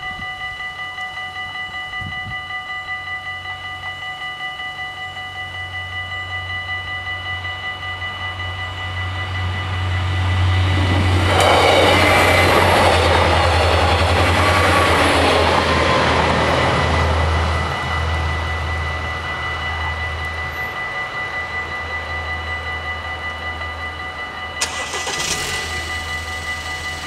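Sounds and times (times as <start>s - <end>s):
railway crossing bells ringing: 0.0s - 27.0s
train engine and wheel noise: 0.0s - 27.0s.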